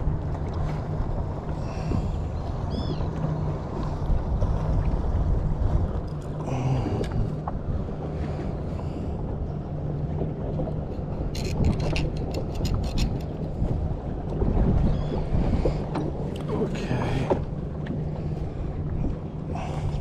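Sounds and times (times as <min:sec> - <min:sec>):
outboard motor running: 0:00.0 - 0:20.0
wind on microphone: 0:00.0 - 0:20.0.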